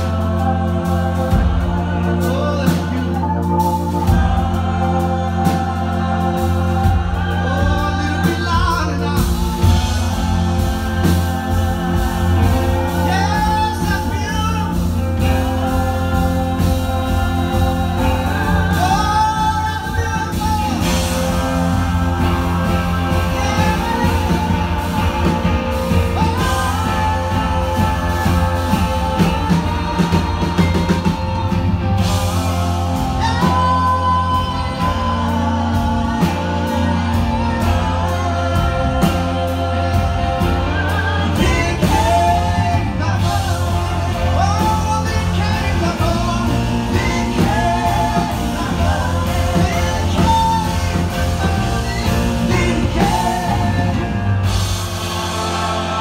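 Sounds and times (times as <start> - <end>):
bass line: 0.0 - 56.0
drum kit: 0.0 - 56.0
electric guitar: 0.0 - 56.0
keyboard: 0.0 - 56.0
person singing: 0.0 - 56.0.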